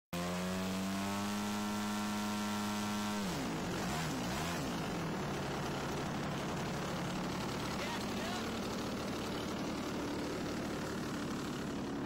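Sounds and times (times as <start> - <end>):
model airplane engine: 0.2 - 12.0.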